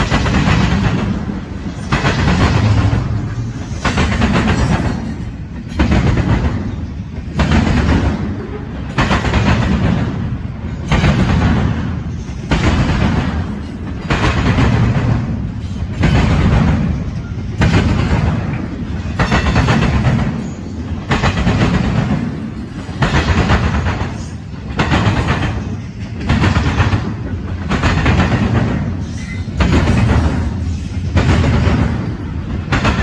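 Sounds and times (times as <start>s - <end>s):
low rumble of passing train cars: 0.0s - 33.0s
train wheels clattering over crossing: 0.0s - 33.0s.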